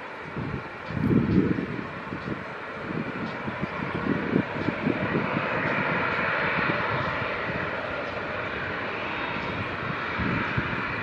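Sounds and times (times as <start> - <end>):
jet engines whining at taxi power: 0.0 - 11.0.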